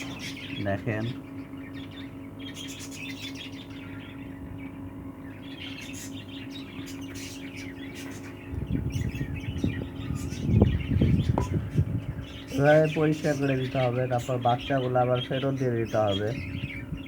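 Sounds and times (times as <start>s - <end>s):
budgerigars chirping: 0.0s - 17.0s
electrical hum: 0.0s - 17.0s.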